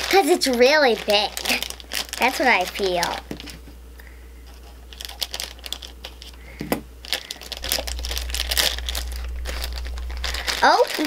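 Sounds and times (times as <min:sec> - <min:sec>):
foil bag crinkling: 0:00.0 - 0:03.8, 0:04.4 - 0:11.0.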